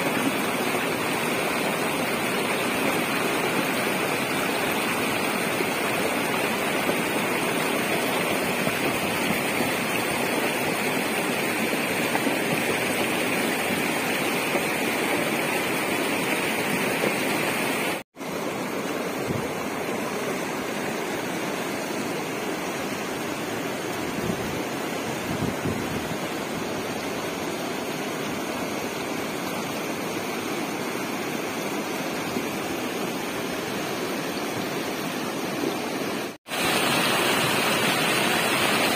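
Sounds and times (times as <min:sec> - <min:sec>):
river rushing and churning: 0:00.0 - 0:38.9.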